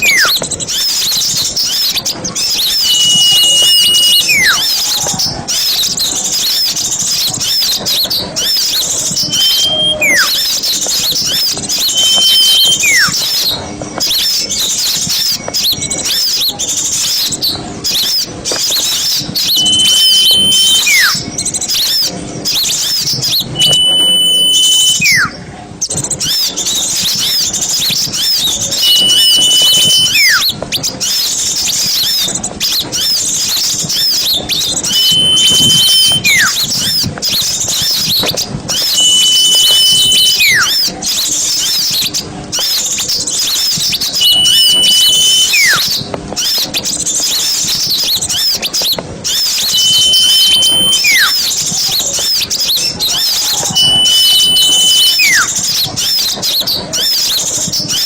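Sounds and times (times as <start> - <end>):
held and falling whistle: 0.0 - 31.2, 33.0 - 42.0, 42.6 - 46.6, 47.3 - 58.0
songbirds chirping in chorus: 0.0 - 58.0.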